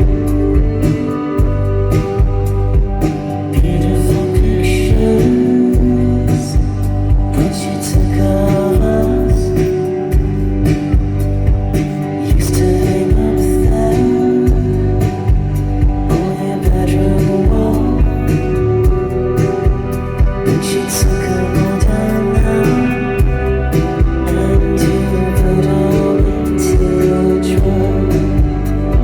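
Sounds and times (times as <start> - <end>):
live band playing slow song: 0.0 - 29.0
steady drum beat: 0.0 - 29.0
person singing: 2.9 - 10.5, 12.0 - 29.0.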